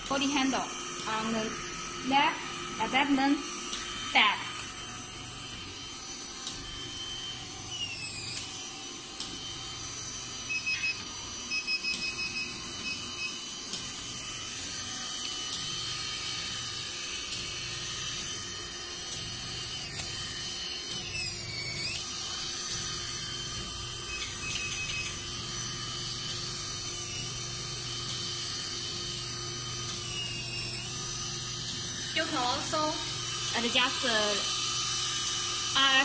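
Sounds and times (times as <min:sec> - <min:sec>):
electric machine hum with whine: 0:00.0 - 0:36.0.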